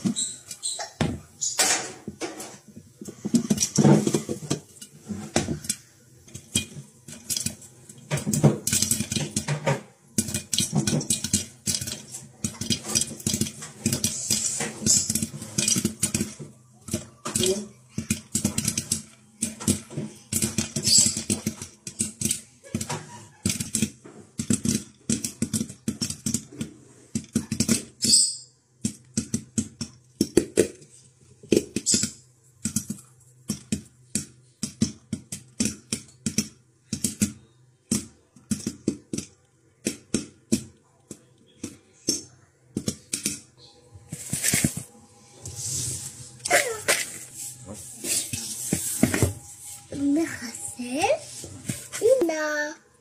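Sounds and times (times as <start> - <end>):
corn kernels popping: 0.0 - 44.9.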